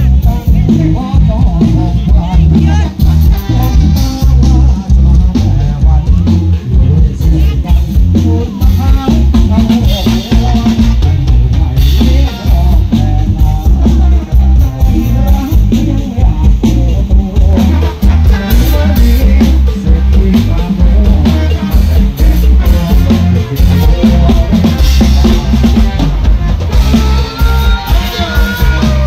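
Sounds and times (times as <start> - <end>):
drum kit beat: 0.0 - 29.0
electric guitars: 0.0 - 29.0
high melody line: 0.0 - 29.0.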